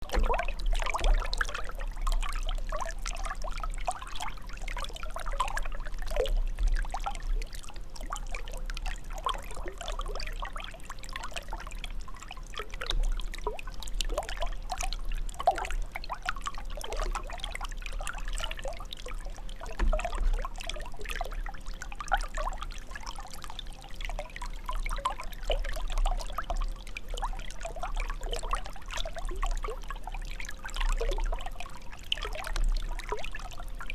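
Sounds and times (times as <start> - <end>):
water trickling and gurgling: 0.0 - 33.9.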